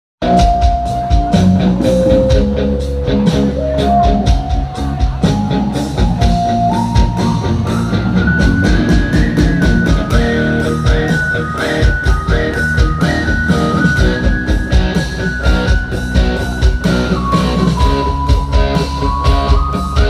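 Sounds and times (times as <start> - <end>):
drum hits: 0.2 - 19.7
bass guitar line: 0.2 - 20.0
electric guitar lead melody: 0.2 - 20.0
keyboard: 0.2 - 20.0.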